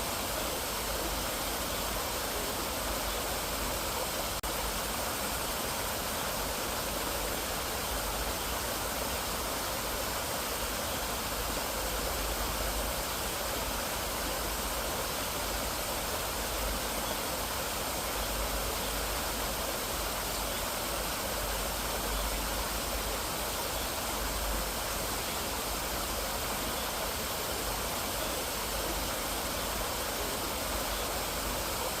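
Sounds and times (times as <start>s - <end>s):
stream rushing over rocks: 0.0s - 32.0s.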